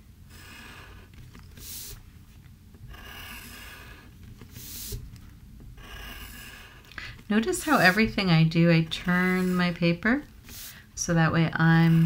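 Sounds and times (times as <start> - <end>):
pencil scratching on paper: 0.3 - 2.1, 2.8 - 12.0.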